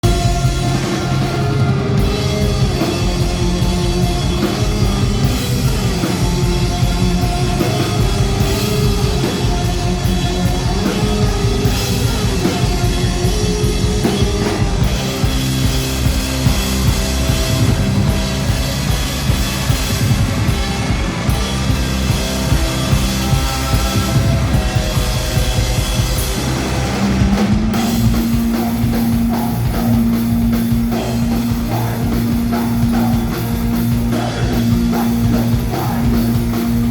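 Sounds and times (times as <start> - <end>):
drum kit beat: 0.0 - 36.9
rock band playing live: 0.0 - 36.9.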